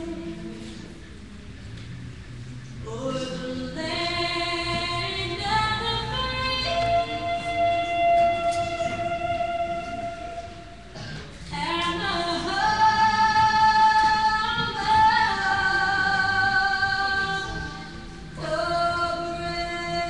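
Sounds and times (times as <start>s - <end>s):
woman singing an anthem: 2.9s - 10.6s, 11.5s - 20.0s.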